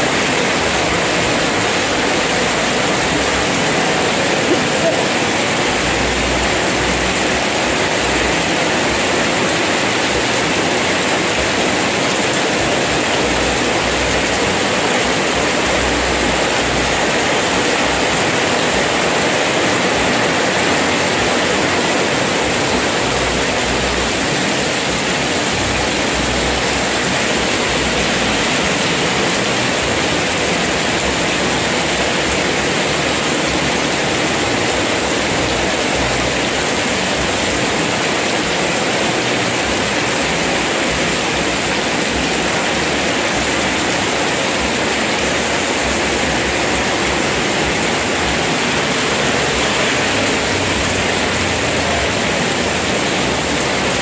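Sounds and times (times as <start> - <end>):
heavy rain on road: 0.0 - 54.0.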